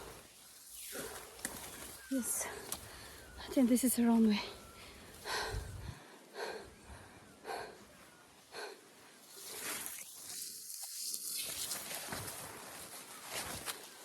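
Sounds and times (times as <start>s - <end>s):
rustling through tall grass: 0.0s - 5.4s, 8.0s - 14.0s.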